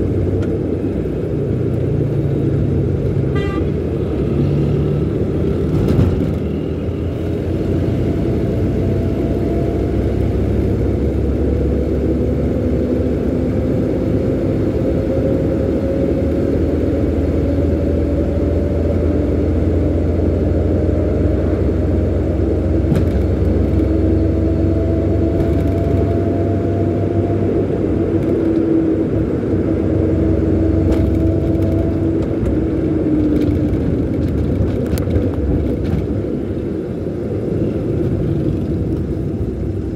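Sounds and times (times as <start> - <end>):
car engine: 0.0 - 39.9
road rumble: 0.0 - 39.9.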